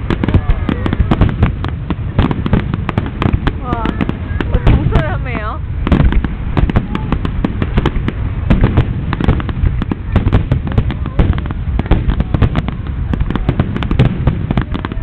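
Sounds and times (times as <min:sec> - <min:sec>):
deep rumble: 0:00.0 - 0:15.0
fireworks bangs and crackles: 0:00.0 - 0:15.0.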